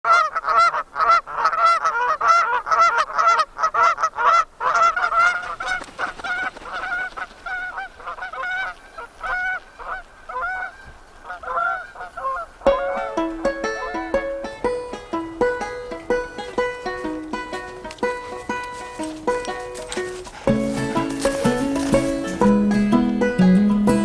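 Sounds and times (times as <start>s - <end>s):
geese honking: 0.1s - 23.4s.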